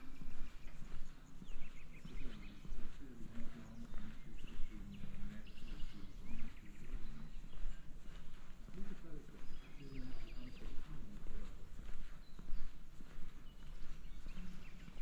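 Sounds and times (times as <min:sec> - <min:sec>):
people's voices: 0:00.0 - 0:12.3, 0:13.3 - 0:15.0
small birds chirping: 0:00.0 - 0:15.0.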